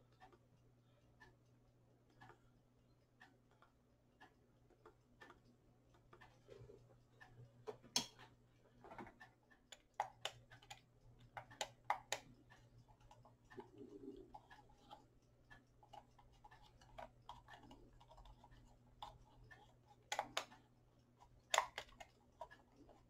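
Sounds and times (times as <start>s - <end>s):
faint clicks and taps: 0.0s - 23.0s
low steady hum: 0.0s - 23.0s.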